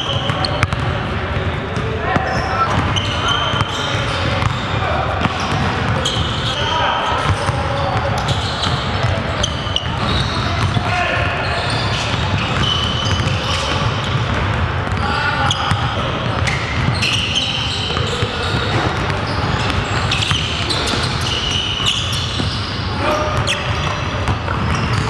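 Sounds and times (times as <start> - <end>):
basketballs bouncing on wood floor: 0.0 - 6.5, 7.2 - 22.8, 23.4 - 25.0
sneaker squeaks: 0.0 - 25.0.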